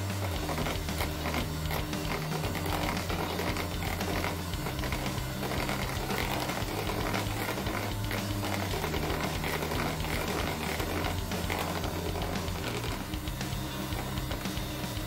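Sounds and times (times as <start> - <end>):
background music: 0.0 - 15.0
electric hand mixer whipping: 0.0 - 15.0.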